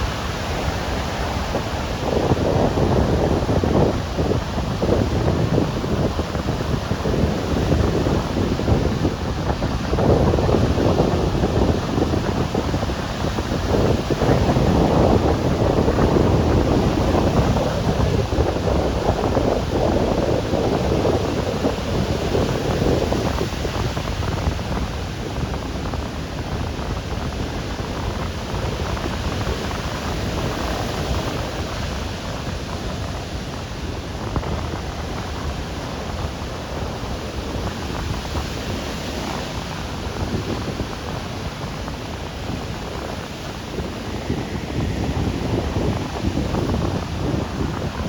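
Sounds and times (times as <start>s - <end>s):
ocean surf washing on beach: 0.0s - 48.0s
wind buffeting microphone: 0.0s - 48.0s.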